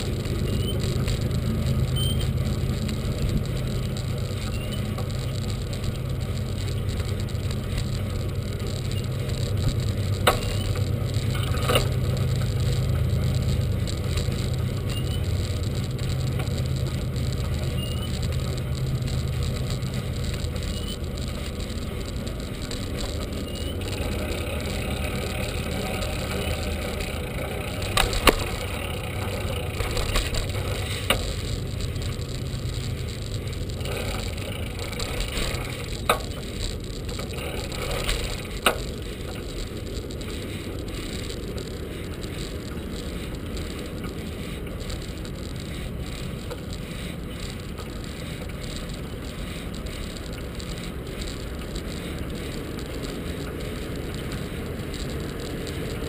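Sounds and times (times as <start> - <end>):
bicycle tyre rumble on pavement: 0.0 - 56.0.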